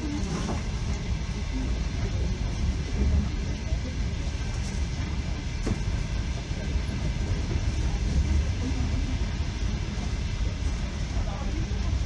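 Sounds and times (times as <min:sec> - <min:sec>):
train carriage rumbling on rails: 0:00.0 - 0:12.0.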